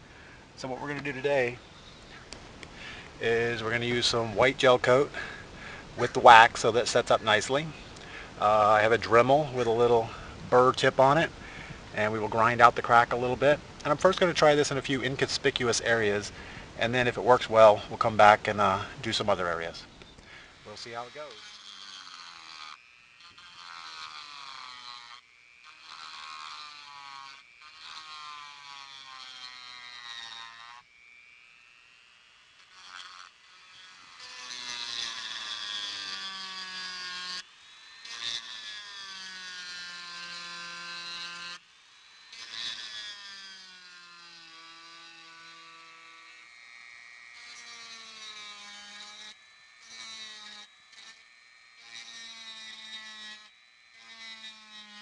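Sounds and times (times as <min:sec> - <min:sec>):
rotary tool grinding fiberglass: 0:00.0 - 0:55.0.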